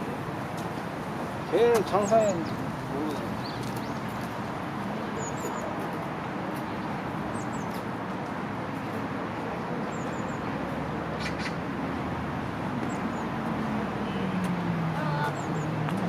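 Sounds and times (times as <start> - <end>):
city park background din: 0.0 - 16.0.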